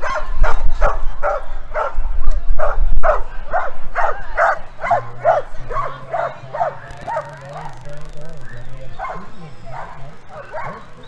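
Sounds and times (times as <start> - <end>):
dog barking: 0.0 - 2.0, 2.6 - 8.2, 8.9 - 11.0.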